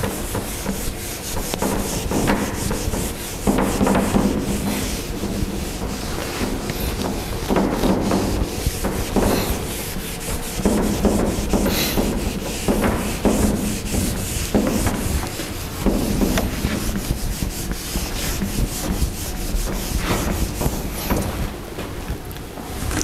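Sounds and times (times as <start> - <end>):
whiteboard eraser wiping: 0.0 - 22.2.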